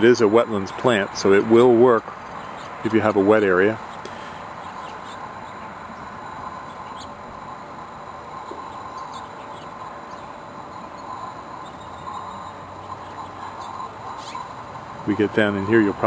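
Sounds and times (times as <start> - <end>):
bees humming: 0.0 - 16.0.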